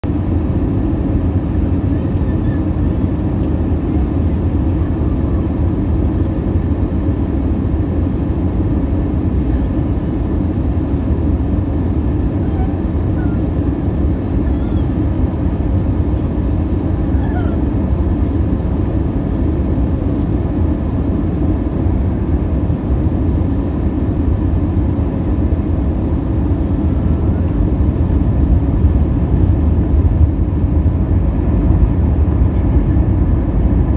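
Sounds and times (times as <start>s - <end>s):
airliner cabin roar: 0.0s - 33.9s.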